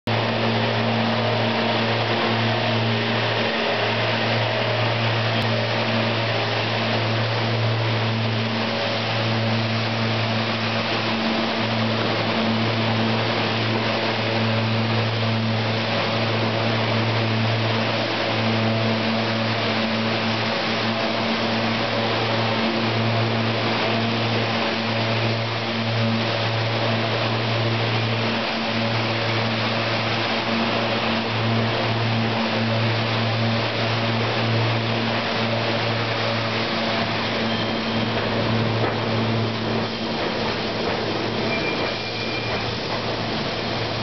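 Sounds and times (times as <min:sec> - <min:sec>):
electric train passing: 0:00.1 - 0:44.0
rushing noise: 0:00.1 - 0:44.0.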